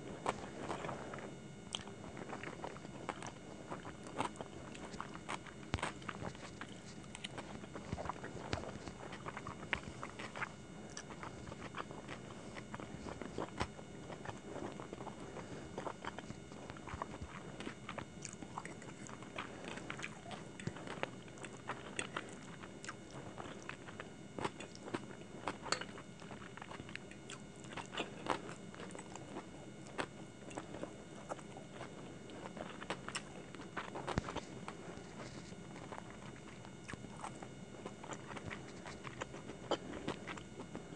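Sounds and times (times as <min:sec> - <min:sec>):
close chewing with wet mouth sounds: 0:00.0 - 0:40.9.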